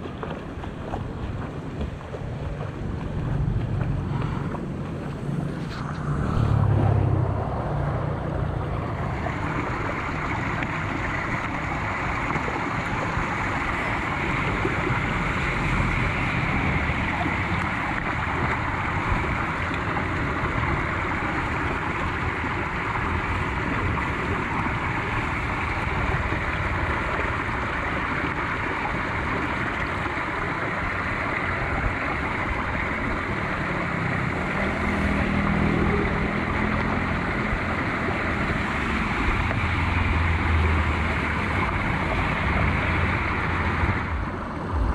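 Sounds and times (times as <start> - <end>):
floodwater rushing into drain: 0.0 - 44.9
wind rumble on microphone: 0.0 - 44.9.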